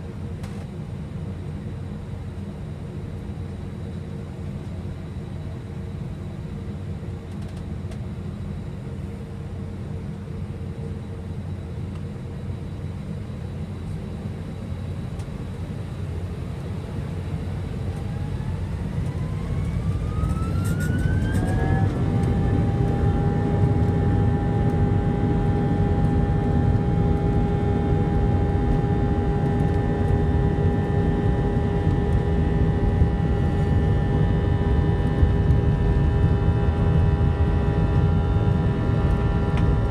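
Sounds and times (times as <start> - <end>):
jet engine low rumble: 0.0 - 39.9
jet engine whine rising: 0.0 - 39.9.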